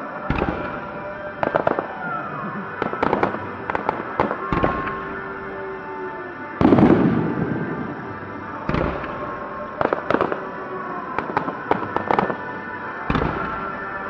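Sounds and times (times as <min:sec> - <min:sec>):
fireworks crackling pops: 0:00.0 - 0:14.0
fireworks booms: 0:00.2 - 0:14.0.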